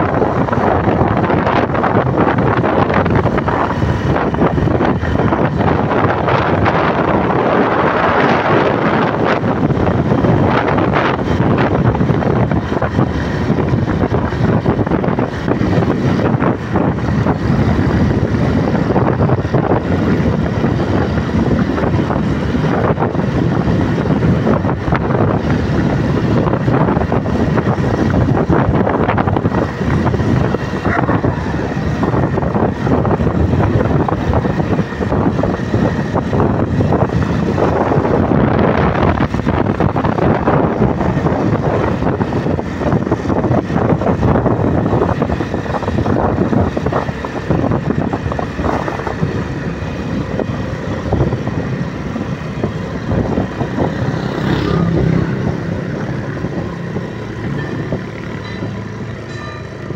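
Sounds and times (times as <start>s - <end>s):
motorcycle engine: 0.0s - 59.9s
road noise: 0.0s - 59.9s
wind rushing over microphone: 0.0s - 59.9s.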